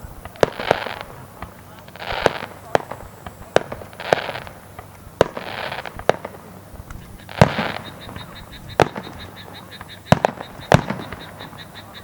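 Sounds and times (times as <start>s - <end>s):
fireworks shells bursting in bangs: 0.0s - 12.0s
hissing crackle: 0.0s - 12.0s.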